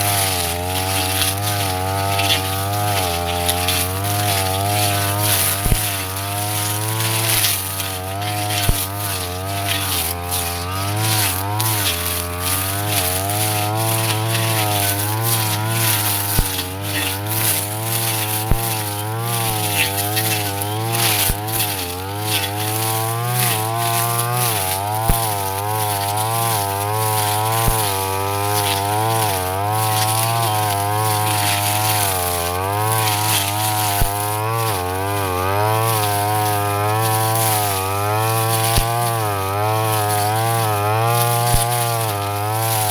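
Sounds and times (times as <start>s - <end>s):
brush cutter engine running: 0.0s - 42.9s.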